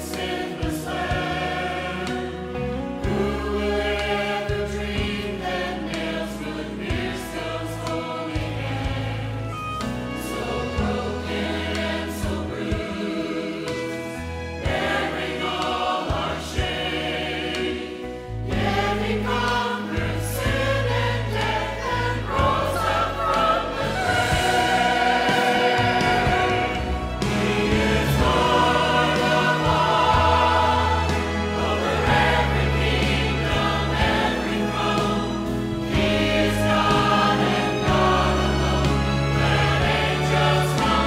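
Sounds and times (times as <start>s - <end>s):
church choir singing: 0.0s - 41.0s
instrumental accompaniment: 0.0s - 41.0s.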